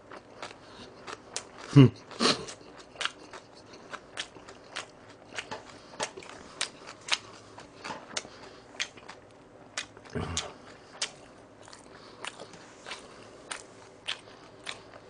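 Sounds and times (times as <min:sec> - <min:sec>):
mouth chewing noodles: 0:00.0 - 0:15.0.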